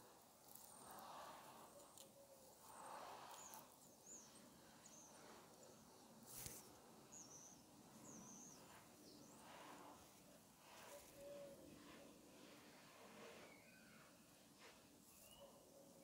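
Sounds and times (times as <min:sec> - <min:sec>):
faint bird chirps: 0:00.6 - 0:16.0.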